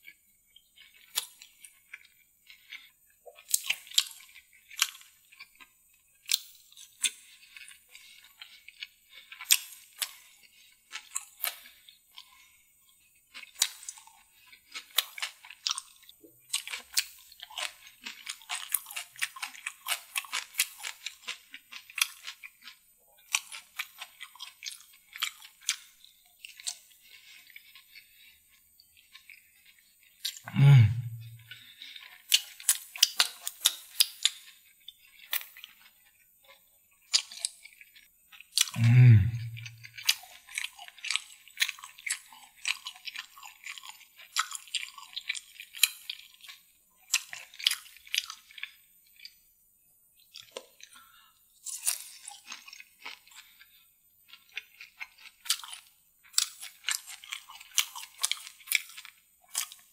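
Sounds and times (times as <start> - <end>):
wet chewing clicks and smacks: 0.0 - 38.8, 39.4 - 49.4, 50.2 - 59.9.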